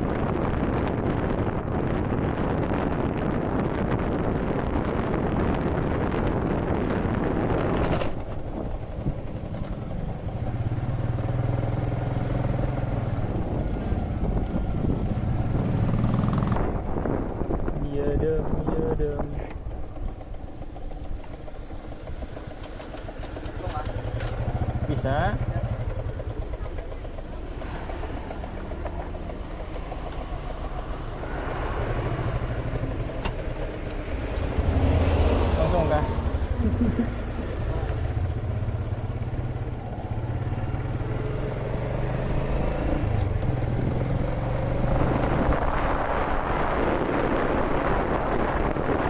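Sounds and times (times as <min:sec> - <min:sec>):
engine humming steadily: 0:00.0 - 0:49.0
wind-like rush: 0:00.0 - 0:49.0.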